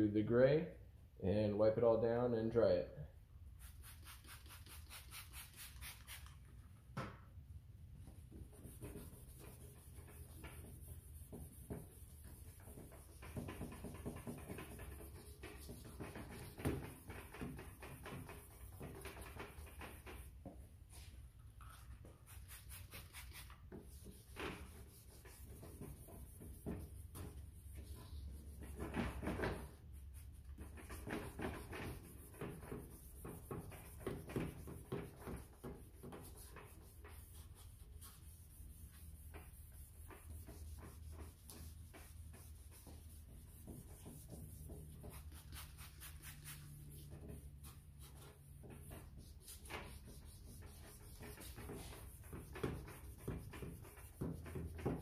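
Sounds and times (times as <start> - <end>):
hand sanding plastic lens: 8.3 - 21.1, 22.0 - 55.0.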